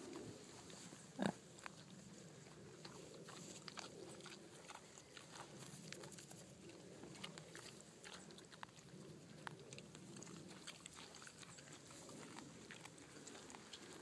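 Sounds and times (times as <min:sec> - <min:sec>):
pigs tearing and chewing grass: 0:00.0 - 0:14.0.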